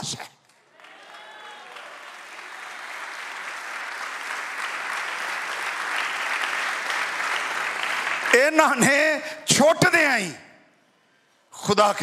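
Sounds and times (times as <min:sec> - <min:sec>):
congregation applauding: 0:00.0 - 0:10.2.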